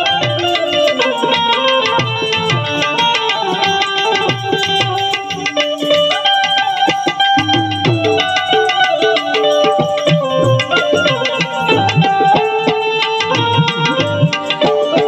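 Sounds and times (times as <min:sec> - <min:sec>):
melody instrument: 0:00.0 - 0:15.0
tabla playing a rhythm: 0:00.0 - 0:15.0.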